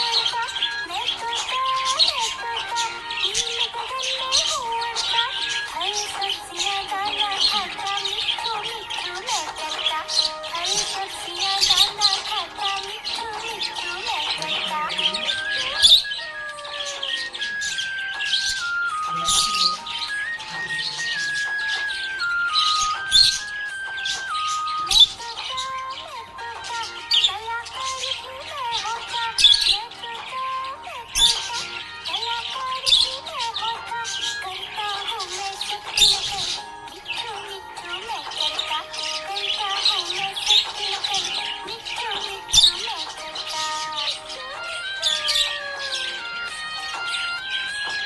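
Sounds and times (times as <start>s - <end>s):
background music: 0.0s - 48.0s
budgerigars chirping and warbling: 0.0s - 48.0s.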